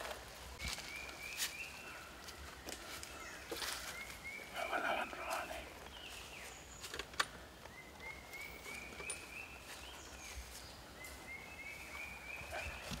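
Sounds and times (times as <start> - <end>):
faint forest ambience: 0.0 - 13.0.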